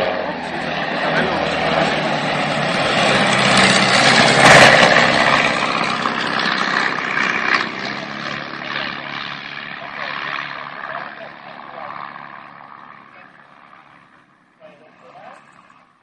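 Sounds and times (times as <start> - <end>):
light aircraft flying past: 0.0 - 16.0.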